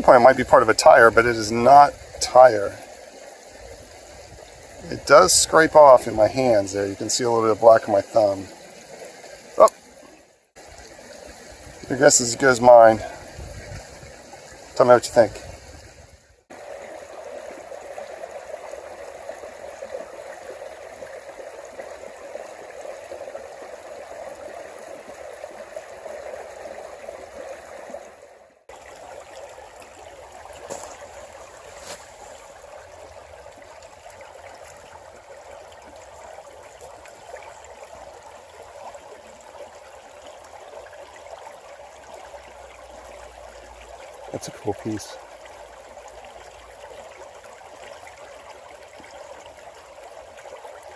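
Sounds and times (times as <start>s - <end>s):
creek water running: 0.0s - 50.9s.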